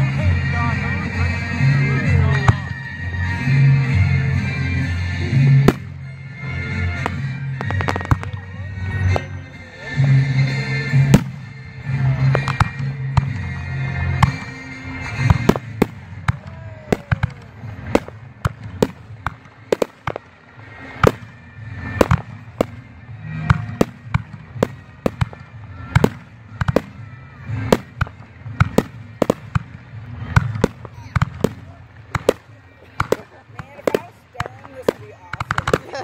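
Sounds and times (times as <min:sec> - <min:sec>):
fireworks bangs and pops: 0:05.3 - 0:06.1, 0:06.7 - 0:09.4, 0:10.0 - 0:36.0.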